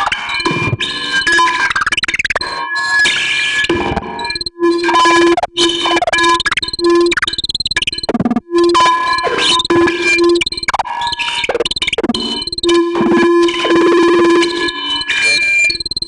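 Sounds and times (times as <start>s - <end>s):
glitchy synthesizer noise music: 0.0s - 16.0s.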